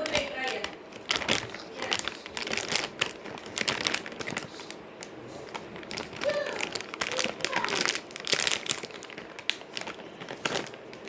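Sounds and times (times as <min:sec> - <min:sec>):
packet crinkling: 0:00.0 - 0:11.0.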